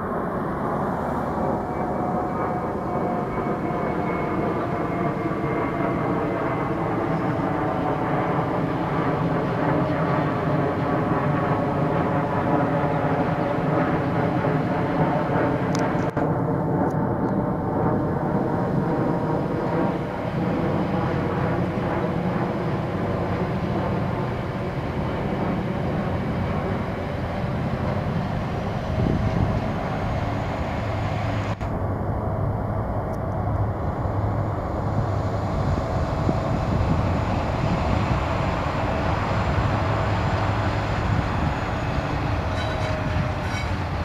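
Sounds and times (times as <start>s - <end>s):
diesel locomotive engines droning: 0.0s - 44.0s.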